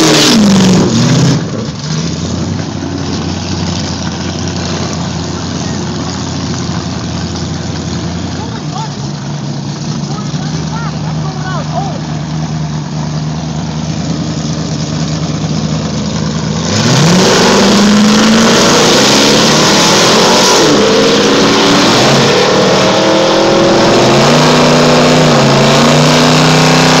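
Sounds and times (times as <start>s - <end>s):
car engines revving: 0.0s - 27.0s.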